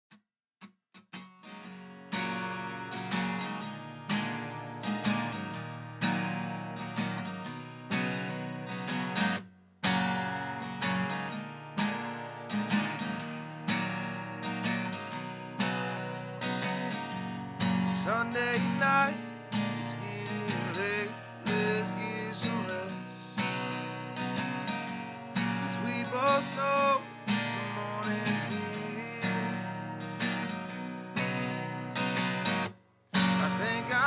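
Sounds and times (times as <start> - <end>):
acoustic guitar strumming: 1.2 - 34.0.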